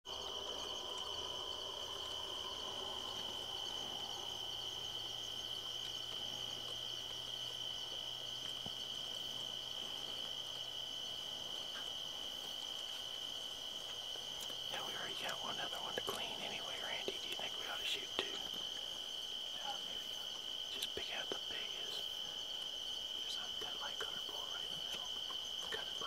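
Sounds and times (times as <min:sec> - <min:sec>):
night insects chirring: 0:00.0 - 0:26.0
faint hiss: 0:00.1 - 0:26.0.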